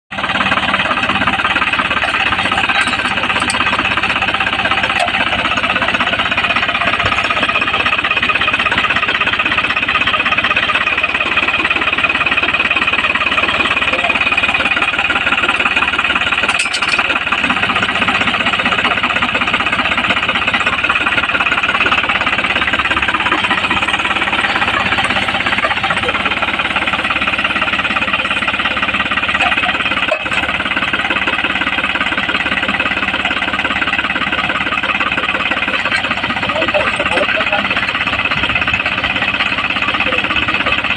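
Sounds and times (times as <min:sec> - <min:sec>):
tractor engine running: 0:00.1 - 0:40.9.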